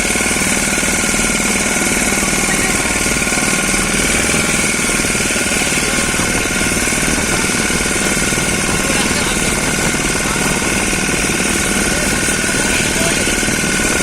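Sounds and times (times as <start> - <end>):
boat engine chugging: 0.0 - 14.0.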